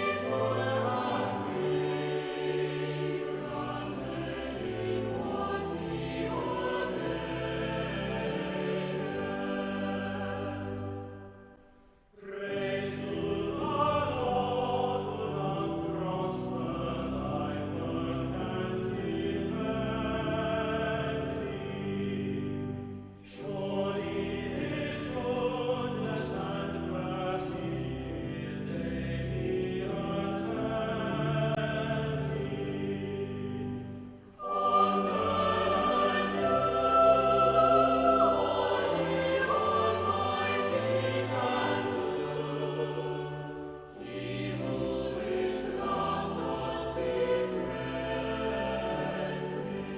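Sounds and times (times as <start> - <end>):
choir singing: 0.0 - 49.9.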